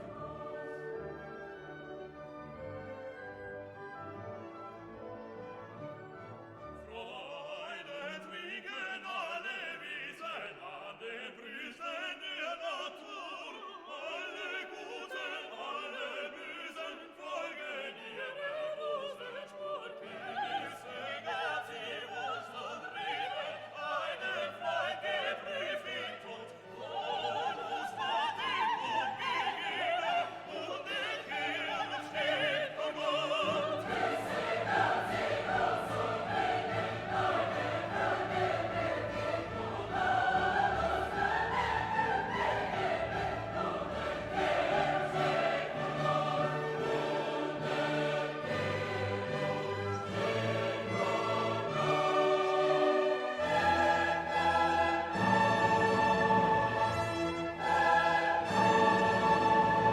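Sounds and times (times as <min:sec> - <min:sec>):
operatic singing with orchestra: 0:00.0 - 0:59.9.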